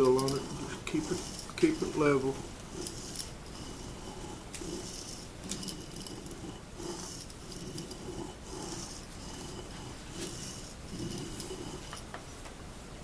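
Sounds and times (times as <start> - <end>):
chisel scraping on whetstone: 0.0 - 12.1.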